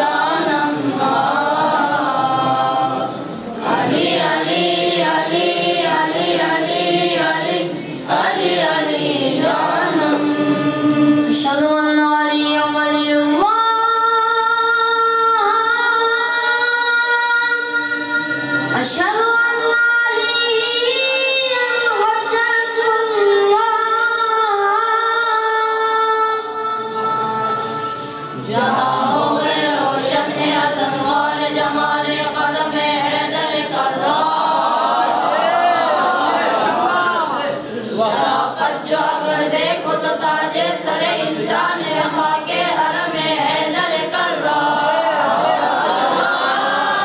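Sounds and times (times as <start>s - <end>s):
boys' choir singing unaccompanied: 0.0s - 47.0s.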